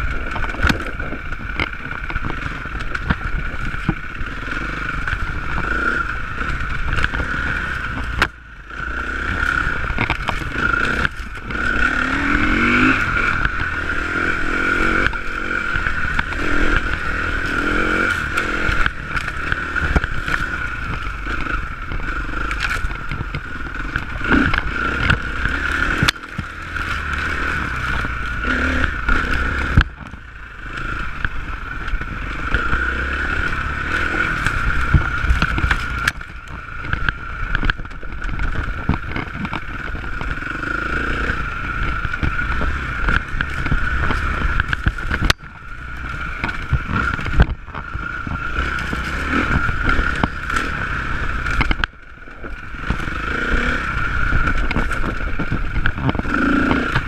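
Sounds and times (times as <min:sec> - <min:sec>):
bike rattling and knocking: 0:00.0 - 0:57.0
motorcycle engine running: 0:00.0 - 0:57.0.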